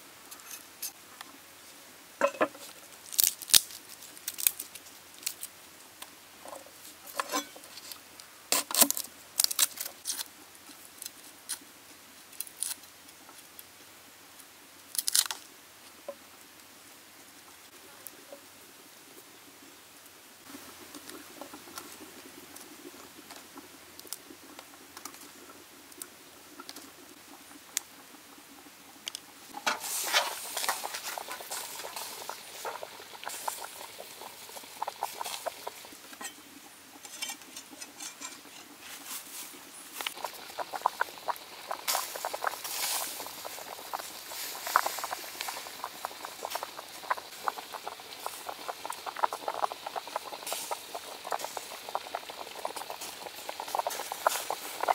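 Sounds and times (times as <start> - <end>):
wood fire crackling and popping: 2.2 - 11.6, 12.3 - 13.7, 14.4 - 16.7, 20.4 - 54.9.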